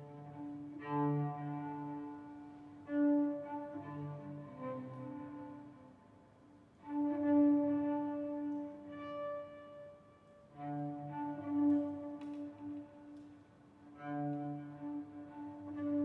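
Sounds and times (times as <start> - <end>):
bowed string instrument music: 0.0 - 16.0.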